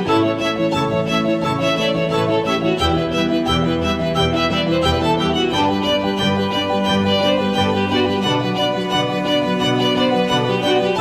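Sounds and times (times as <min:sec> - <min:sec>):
bowed strings playing: 0:00.0 - 0:11.0.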